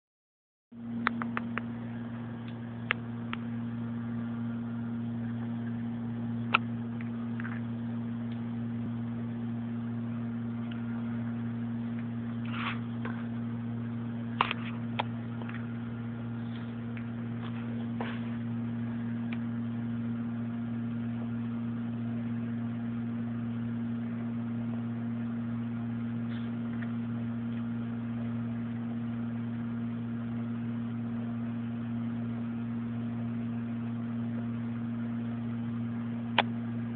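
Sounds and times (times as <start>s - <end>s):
low electrical hum: 0.8s - 36.9s.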